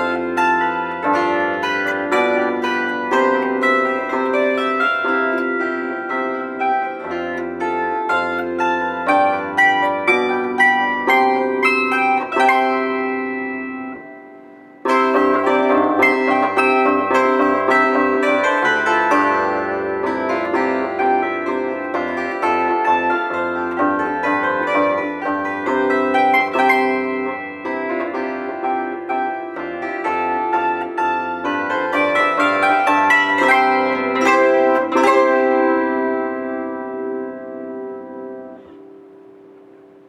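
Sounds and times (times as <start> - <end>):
plucked string instrument: 0.0 - 40.0.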